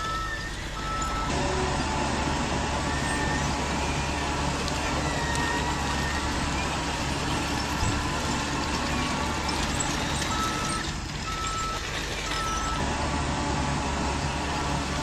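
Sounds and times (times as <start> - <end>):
reversing beeper: 0.0 - 2.0, 2.7 - 12.9.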